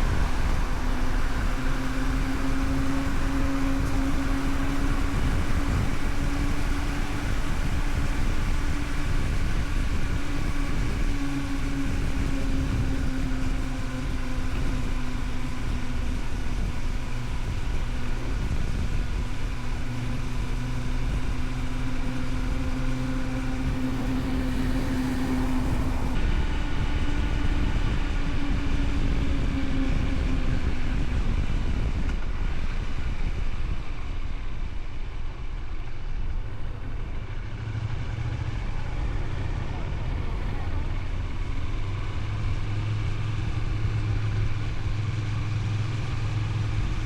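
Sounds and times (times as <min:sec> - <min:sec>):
low wind rumble: 0:00.0 - 0:47.0
motorcycle engine cruising: 0:00.0 - 0:47.0.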